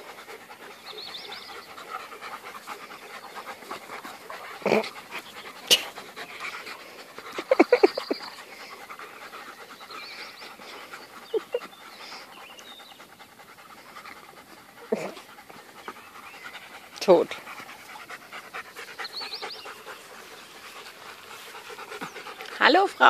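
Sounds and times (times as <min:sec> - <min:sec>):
dogs panting: 0:00.0 - 0:23.0.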